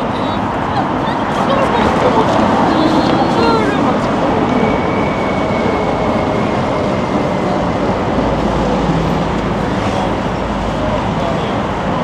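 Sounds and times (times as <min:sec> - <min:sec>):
city street traffic: 0:00.0 - 0:12.0
passing vehicle low rumble: 0:00.0 - 0:12.0.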